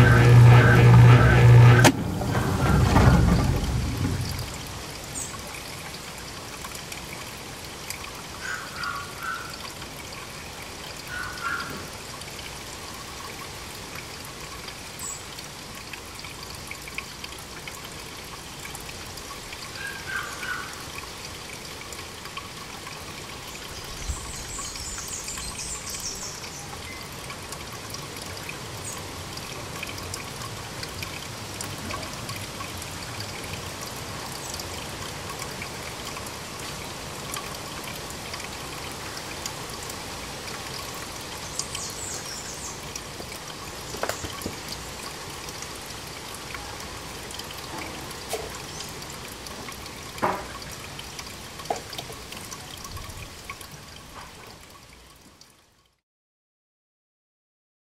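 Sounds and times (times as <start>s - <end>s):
water pouring into sink: 0.0s - 55.1s.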